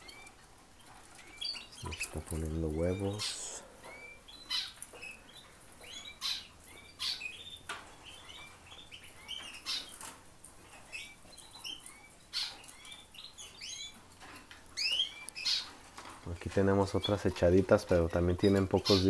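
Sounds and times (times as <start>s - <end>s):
canaries chirping: 0.0s - 19.0s.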